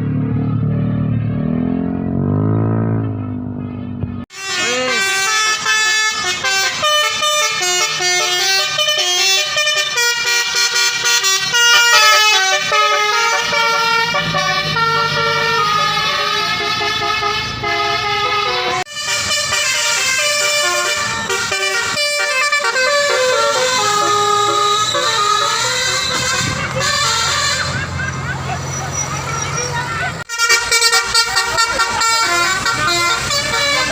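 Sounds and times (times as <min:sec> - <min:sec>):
bus horn playing a tune: 0:04.3 - 0:33.9.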